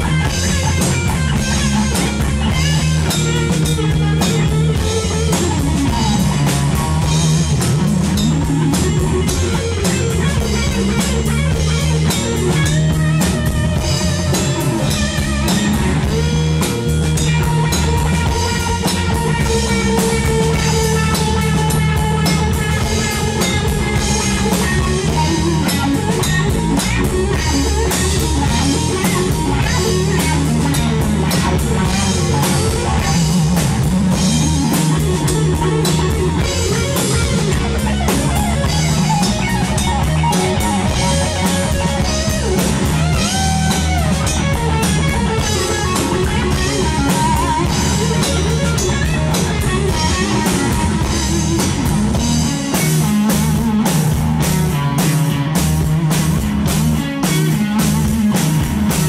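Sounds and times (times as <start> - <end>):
electric guitar lead lines: 0.0 - 59.0
live rock band playing: 0.0 - 59.0.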